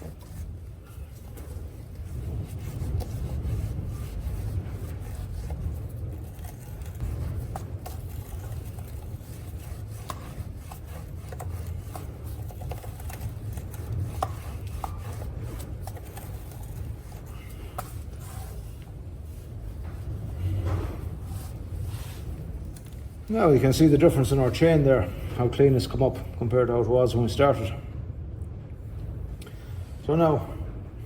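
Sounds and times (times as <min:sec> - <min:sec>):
cloth rubbing on drive chain: 0:00.0 - 0:25.2
steady low rumble: 0:00.0 - 0:31.0.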